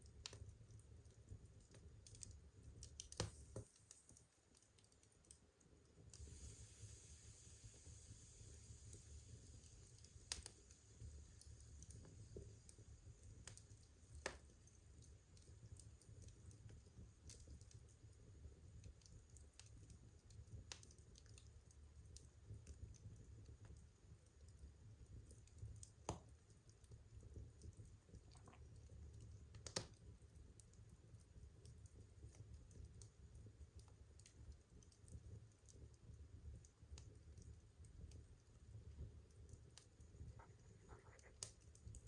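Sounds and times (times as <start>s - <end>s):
faint low hum: 0.0s - 42.0s
wood fire crackling: 0.0s - 42.0s.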